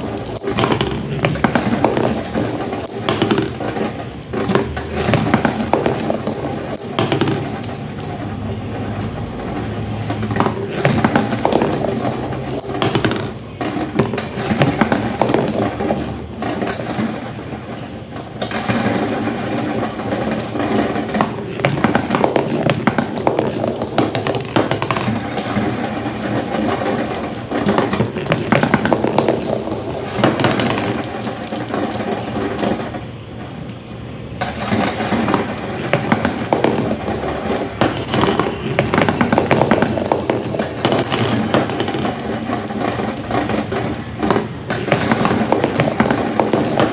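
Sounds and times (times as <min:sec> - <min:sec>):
marbles rolling and clattering: 0:00.0 - 0:46.9.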